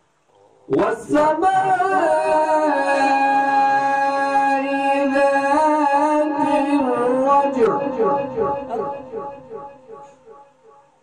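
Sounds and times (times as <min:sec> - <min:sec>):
man reciting melodically: 0:00.6 - 0:10.4.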